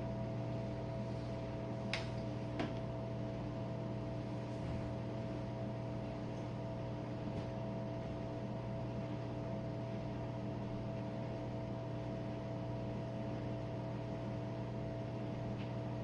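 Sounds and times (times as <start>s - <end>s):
dishwasher motor hum: 0.0s - 16.0s.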